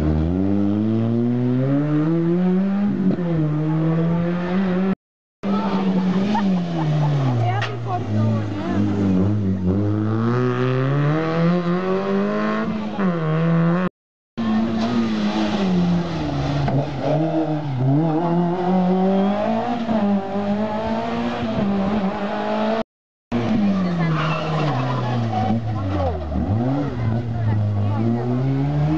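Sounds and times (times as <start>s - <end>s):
rally car engines revving: 0.0s - 28.9s.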